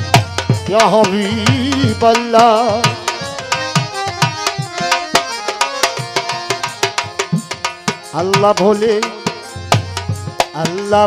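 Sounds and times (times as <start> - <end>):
bending melody line: 0.0 - 11.0
tabla strokes: 0.0 - 11.0.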